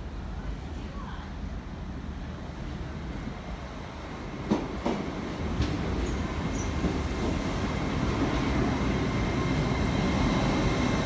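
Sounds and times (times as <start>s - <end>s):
train running noise: 1.8s - 11.0s.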